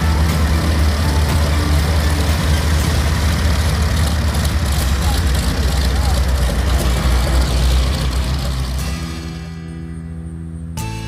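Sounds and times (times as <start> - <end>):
aircraft engines rumbling: 0.0 - 10.9.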